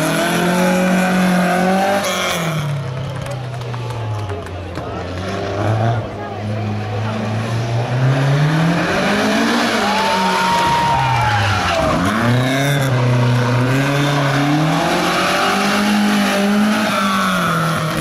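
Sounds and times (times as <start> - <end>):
car engine revving: 0.0 - 3.3, 4.2 - 18.0.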